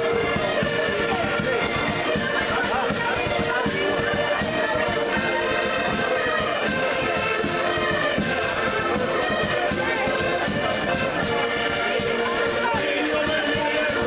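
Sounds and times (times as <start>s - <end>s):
button accordions playing: 0.0s - 14.0s.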